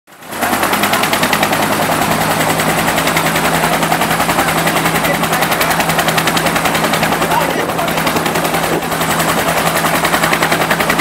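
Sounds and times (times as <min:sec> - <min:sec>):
helicopter engine hum: 0:00.1 - 0:11.0
helicopter rotor chopping: 0:00.1 - 0:11.0.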